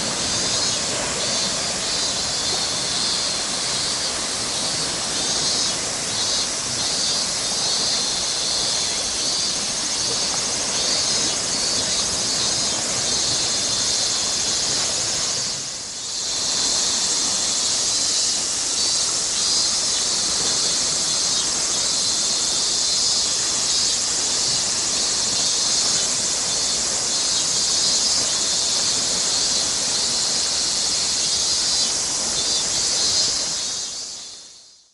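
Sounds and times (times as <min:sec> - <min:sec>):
cicadas buzzing: 0:00.0 - 0:34.9.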